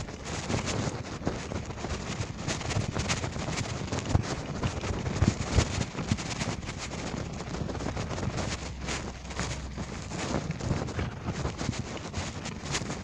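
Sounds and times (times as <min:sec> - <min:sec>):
bicycle knocks and rattles: 0:00.0 - 0:13.0
wind buffeting microphone: 0:00.0 - 0:13.0.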